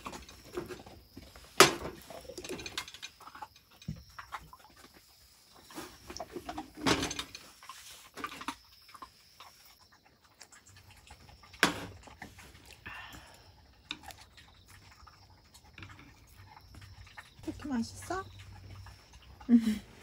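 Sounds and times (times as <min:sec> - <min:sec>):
dog eating: 0:00.0 - 0:20.0.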